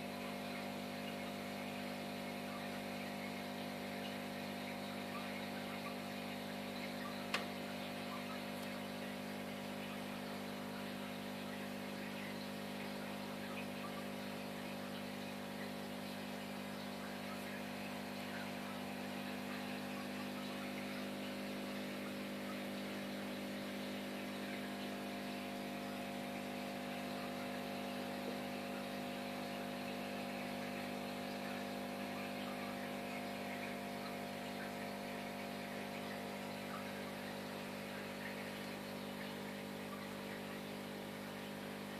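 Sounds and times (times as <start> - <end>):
air bubbles fizzing in water: 0.0 - 41.9
aquarium air pump humming: 0.0 - 41.9.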